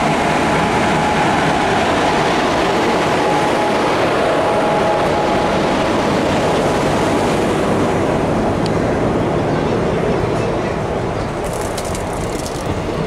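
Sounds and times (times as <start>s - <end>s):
wheels rushing on rail: 0.0s - 13.0s.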